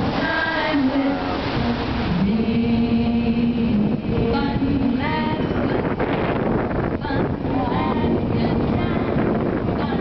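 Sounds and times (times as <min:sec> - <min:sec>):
fountain music: 0:00.0 - 0:10.0
water jets rushing: 0:00.0 - 0:10.0.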